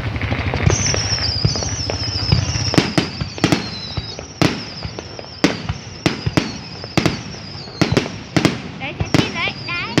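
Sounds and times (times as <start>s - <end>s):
fireworks bangs: 0.0s - 10.0s
fireworks crackle: 0.0s - 10.0s
high wavering whistle: 0.6s - 8.2s, 8.8s - 10.0s.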